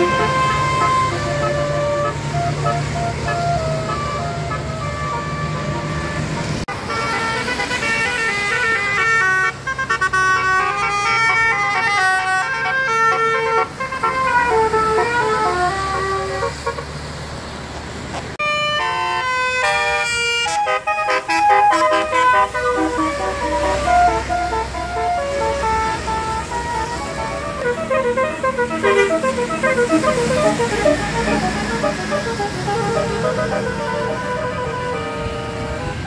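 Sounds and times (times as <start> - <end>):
multi-tone vehicle horn melody: 0.0 - 17.0, 18.4 - 36.0.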